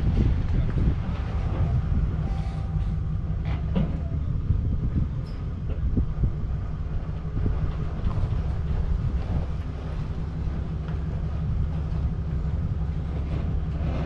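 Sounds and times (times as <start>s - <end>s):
engine and road drone: 0.0s - 14.0s.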